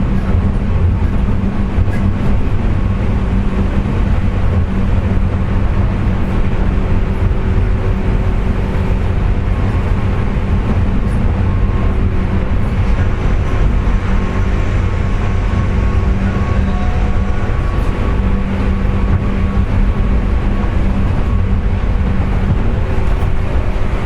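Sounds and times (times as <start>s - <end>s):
steady whining tone: 0.0s - 24.0s
train running rumble: 0.0s - 24.0s.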